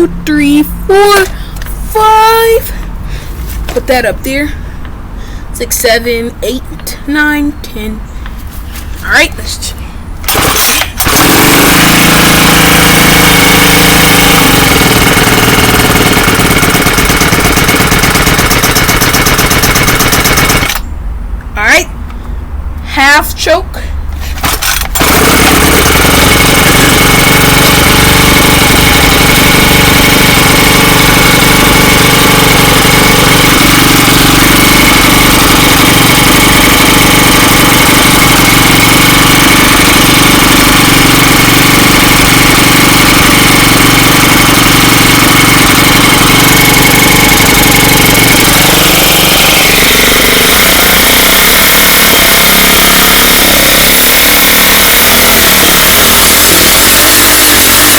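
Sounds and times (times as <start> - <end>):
string trimmer engine running: 0.0 - 3.8, 10.2 - 20.9, 24.1 - 57.9.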